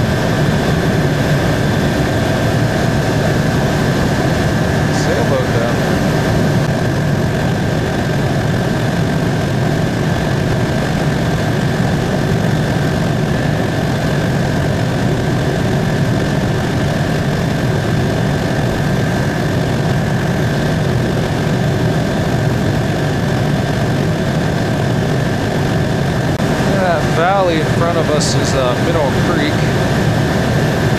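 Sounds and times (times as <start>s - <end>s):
helicopter engine and rotor drone: 0.0s - 30.9s
high whine: 0.0s - 30.9s.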